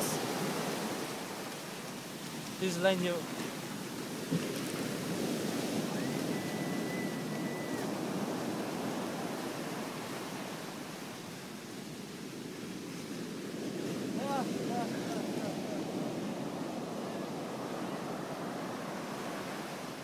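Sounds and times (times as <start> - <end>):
surf waves washing on beach: 0.0 - 20.0.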